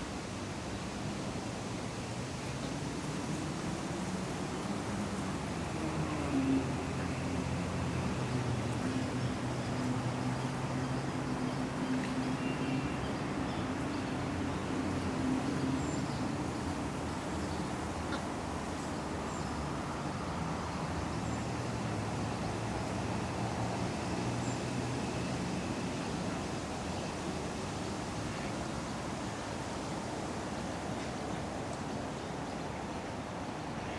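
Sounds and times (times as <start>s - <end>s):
wind: 0.0s - 33.9s.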